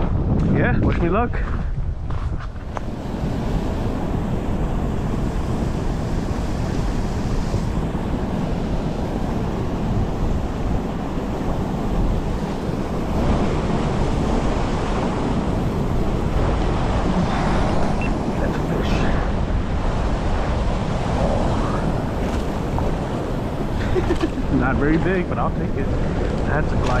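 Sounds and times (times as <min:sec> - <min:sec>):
wind buffeting microphone: 0:00.0 - 0:27.0
water rushing from spillway: 0:02.8 - 0:27.0.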